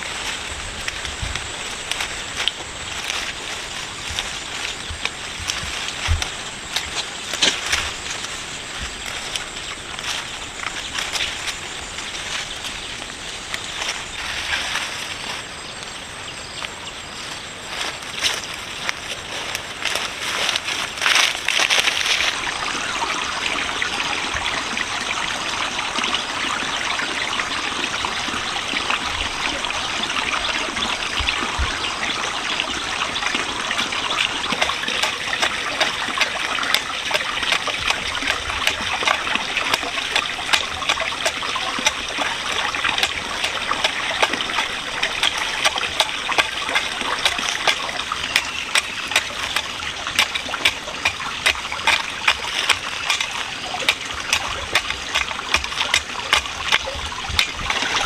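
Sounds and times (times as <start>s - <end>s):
water running and trickling: 0.0s - 15.4s, 17.8s - 58.0s.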